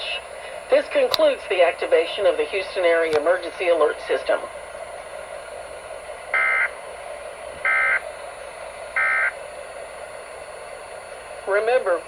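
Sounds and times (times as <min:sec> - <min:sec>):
radio background hiss: 0:00.0 - 0:12.0.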